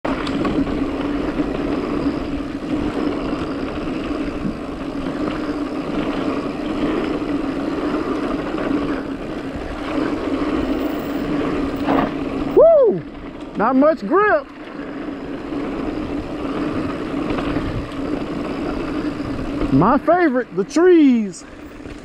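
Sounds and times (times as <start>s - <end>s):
bike tyres on dirt: 0.0s - 22.0s
wind noise: 0.0s - 22.0s.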